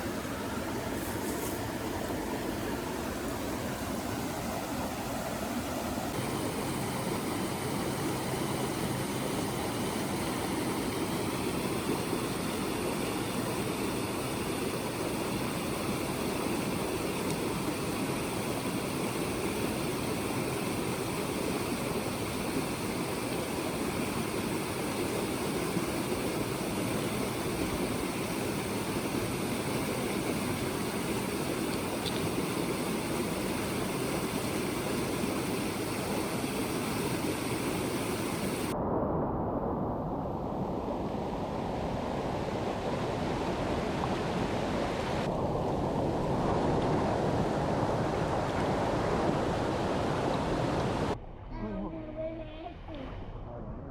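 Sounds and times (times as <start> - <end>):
rushing water: 0.0 - 38.8, 40.8 - 51.2.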